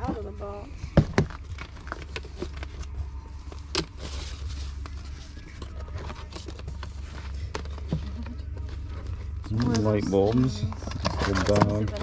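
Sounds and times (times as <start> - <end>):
steady low hum: 0.0 - 12.0
packaging rustle: 1.2 - 12.0.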